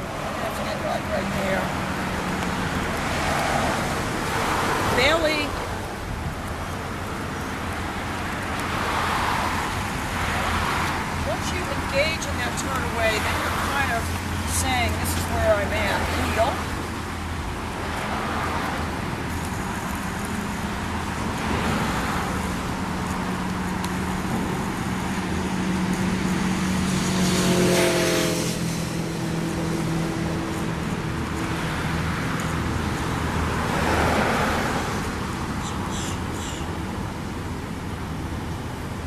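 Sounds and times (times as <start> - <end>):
traffic engine hum: 0.0 - 39.0
vehicles passing: 0.0 - 39.0.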